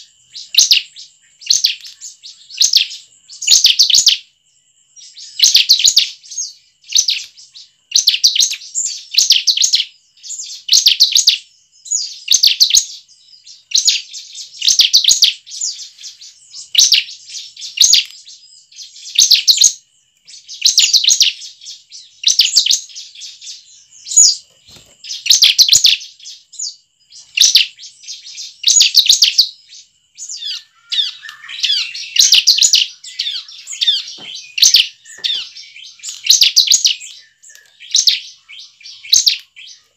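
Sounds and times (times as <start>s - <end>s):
bird trilling: 0.0s - 4.2s, 5.0s - 39.9s.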